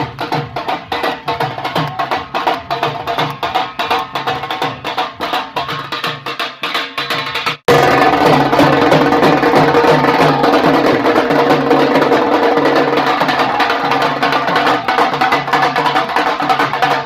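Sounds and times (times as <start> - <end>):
music with repeating drum beat: 0.0 - 17.0.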